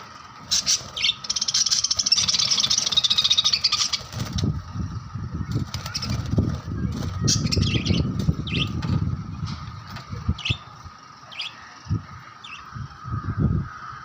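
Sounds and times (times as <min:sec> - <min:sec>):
lovebirds chirping: 0:00.0 - 0:14.0
low rumbling noise: 0:00.0 - 0:14.0.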